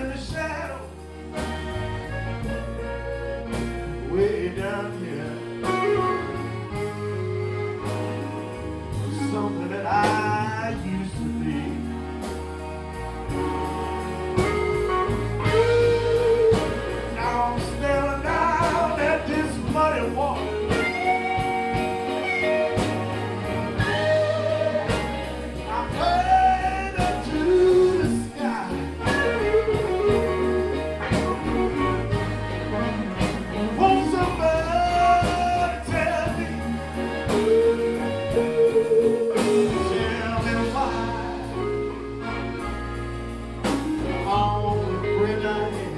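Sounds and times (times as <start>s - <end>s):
bending lead melody: 0.0s - 45.9s
blues band playing: 0.0s - 45.9s.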